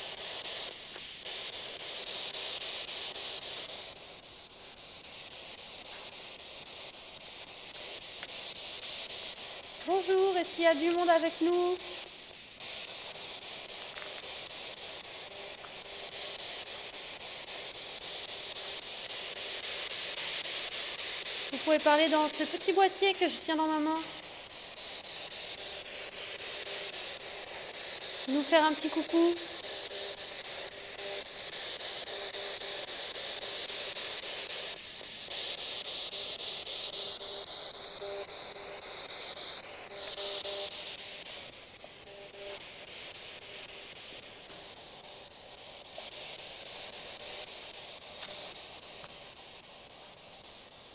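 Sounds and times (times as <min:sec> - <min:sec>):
radio static chopped by sweeping: 0:00.0 - 0:50.9
faint regular ticks: 0:00.1 - 0:50.9.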